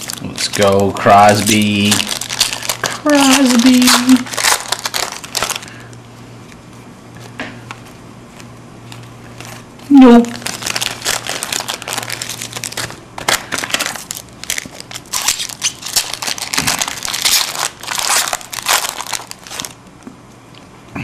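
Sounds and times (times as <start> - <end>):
card pack wrappers crinkling: 0.0 - 5.9, 7.7 - 19.8.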